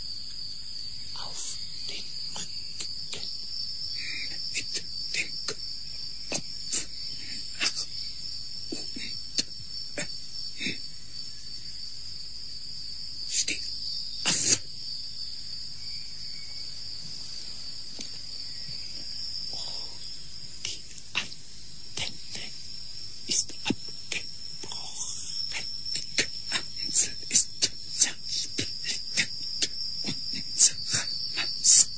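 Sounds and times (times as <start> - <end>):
crickets chirring: 0.0 - 31.9.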